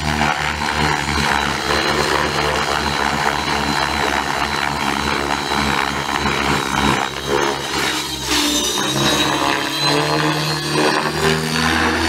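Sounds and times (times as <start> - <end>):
helicopter rotor blades: 0.0 - 12.0
high motor whine: 0.0 - 12.0.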